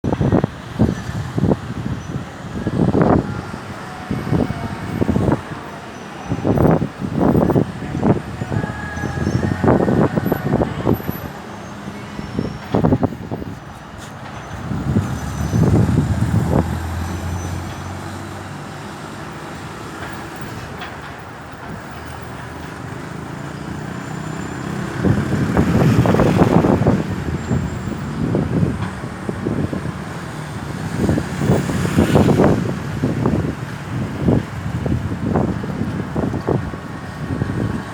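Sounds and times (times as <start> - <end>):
vehicles passing: 0.0 - 37.9.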